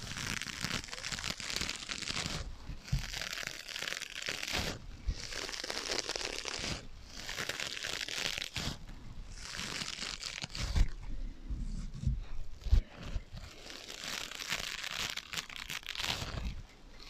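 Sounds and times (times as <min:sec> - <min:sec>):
scratching on sponges: 0:00.0 - 0:17.0.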